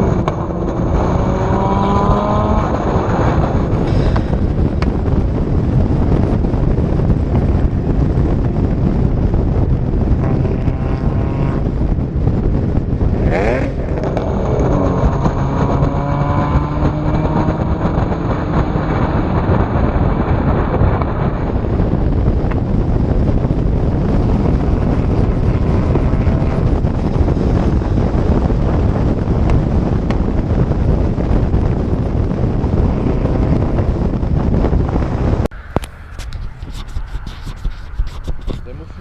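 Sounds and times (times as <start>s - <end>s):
turbocharged car engine running hard: 0.0s - 35.9s
wind and road noise: 0.0s - 39.0s.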